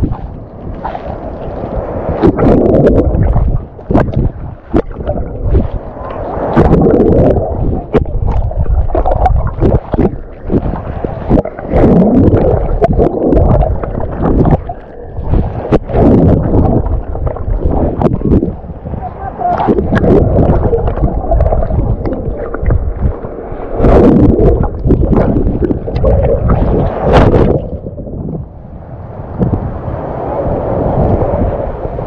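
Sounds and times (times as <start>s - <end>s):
sea surf splashing: 0.0s - 32.0s
wind buffeting microphone: 0.0s - 32.0s.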